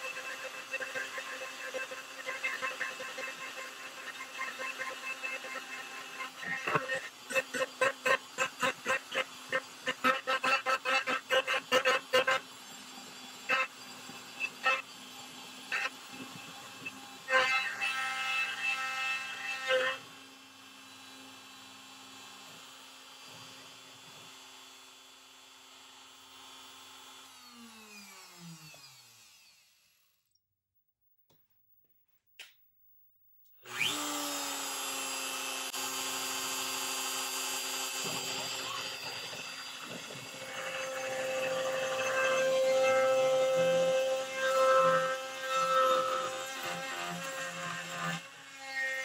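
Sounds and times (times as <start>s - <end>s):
router spindle cutting wood: 0.0s - 30.0s, 33.6s - 49.0s.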